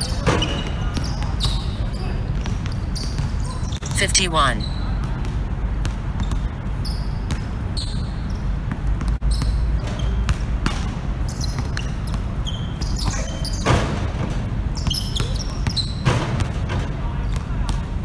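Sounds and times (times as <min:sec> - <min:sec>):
basketball bouncing: 0:02.3 - 0:04.0, 0:05.0 - 0:17.9.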